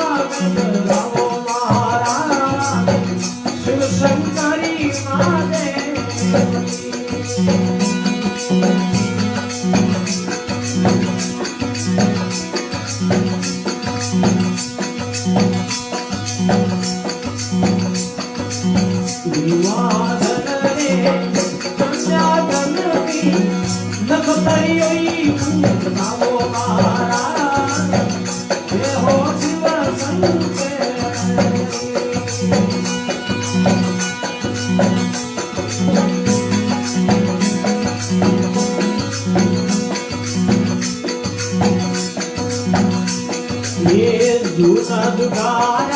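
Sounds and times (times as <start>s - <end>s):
jingling percussion: 0.0s - 45.9s
string melody: 0.0s - 45.9s.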